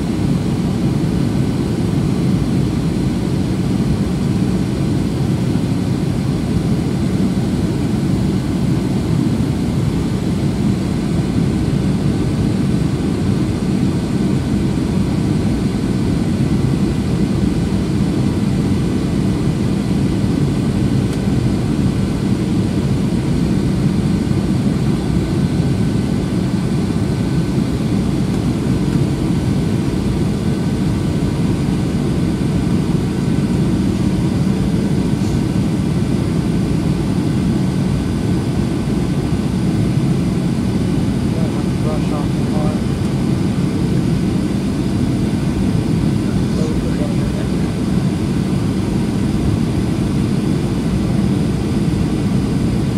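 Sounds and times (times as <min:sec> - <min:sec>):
airplane cabin engine rumble: 0:00.0 - 0:52.9.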